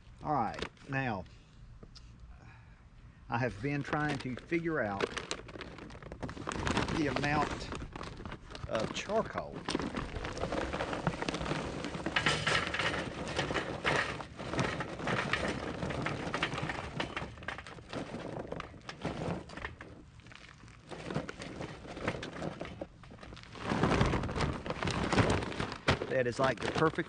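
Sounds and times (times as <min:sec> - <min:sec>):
charcoal pouring into metal: 0:03.6 - 0:27.0.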